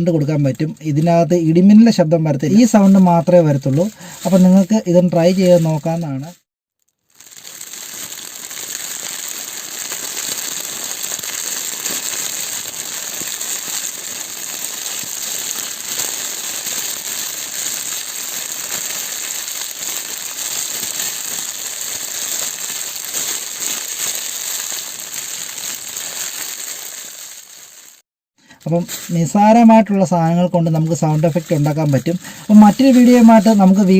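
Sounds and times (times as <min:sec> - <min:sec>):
foil plastic crinkling: 0:02.5 - 0:33.9.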